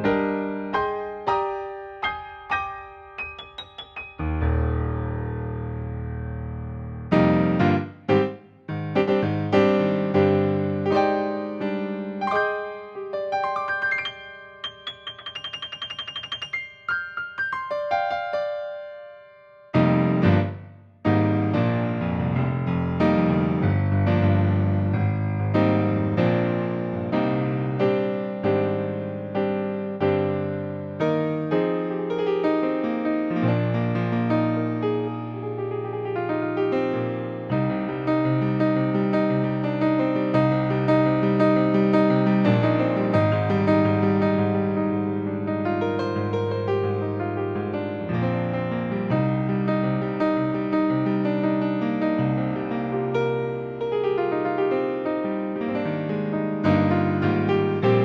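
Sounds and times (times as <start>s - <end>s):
digital piano playing chords: 0.0s - 58.0s.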